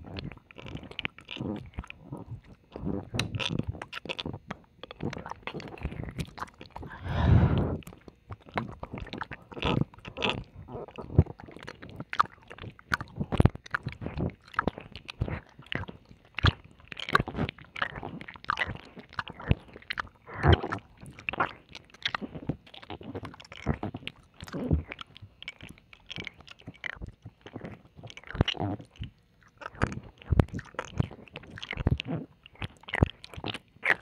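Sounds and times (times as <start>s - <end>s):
wet mouth licking and kissing: 0.1s - 34.0s.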